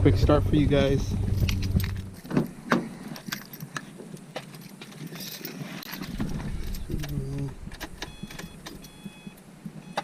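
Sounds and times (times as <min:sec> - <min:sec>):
car keys jangling: 0:01.2 - 0:09.4.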